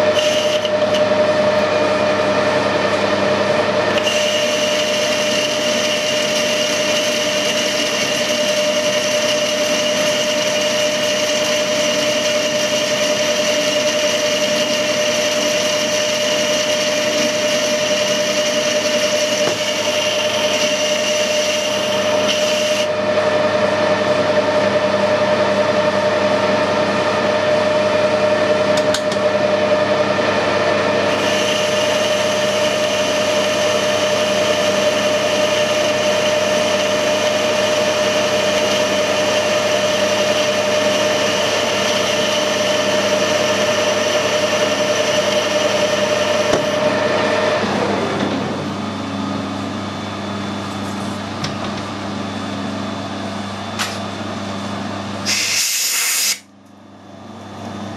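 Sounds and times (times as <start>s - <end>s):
metal lathe cutting: 0.0s - 50.2s
lathe running: 0.0s - 55.4s.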